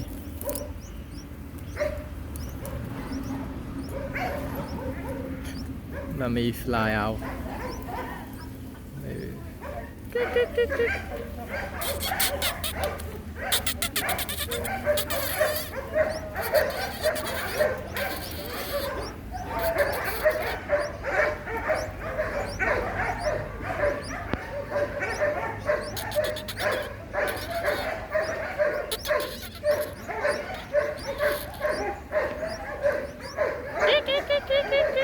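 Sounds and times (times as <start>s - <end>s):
nestling birds begging calls: 0.0s - 35.0s.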